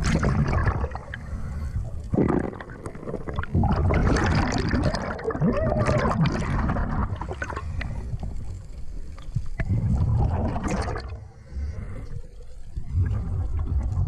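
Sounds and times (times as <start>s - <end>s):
underwater air bubbles rushing: 0.0s - 14.0s.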